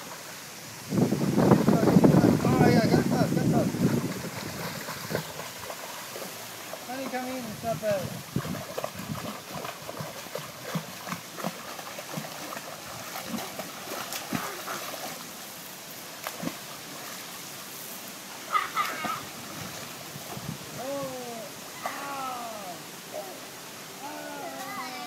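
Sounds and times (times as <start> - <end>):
pool water splashing: 0.0 - 25.0.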